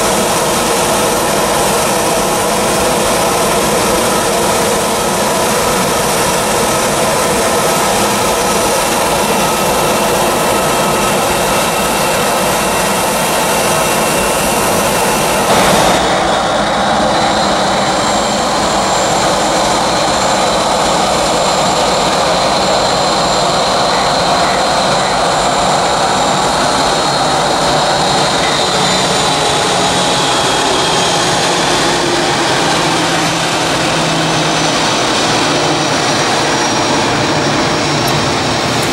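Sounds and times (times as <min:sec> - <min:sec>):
airliner taxiing engine whine: 0:00.0 - 0:38.9
jet engines running: 0:00.0 - 0:38.9.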